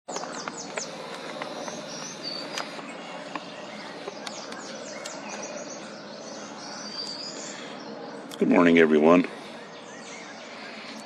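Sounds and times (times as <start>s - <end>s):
birds chirping: 0.1s - 11.0s
steady background hiss: 0.2s - 11.0s.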